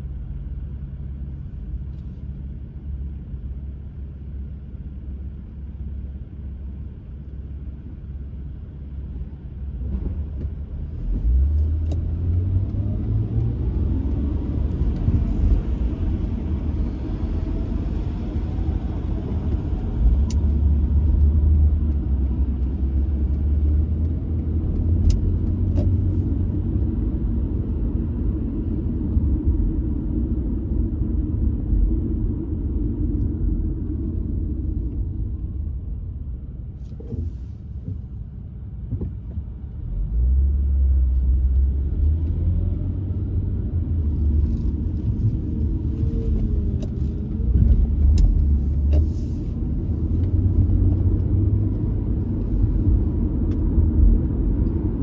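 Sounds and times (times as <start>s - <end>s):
car engine: 0.0s - 55.0s
road noise inside car: 0.0s - 55.0s.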